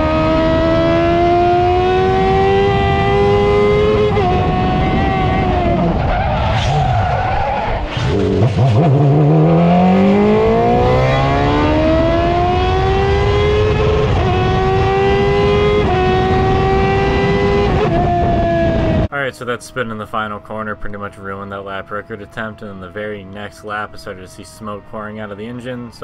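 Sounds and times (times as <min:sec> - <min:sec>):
race car engine revving: 0:00.0 - 0:25.5.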